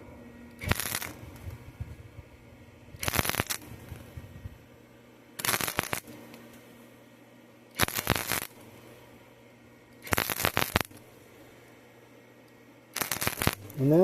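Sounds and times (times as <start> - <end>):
arc welder crackling: 0.0 - 6.8, 7.7 - 9.2, 9.8 - 11.7, 12.4 - 14.0.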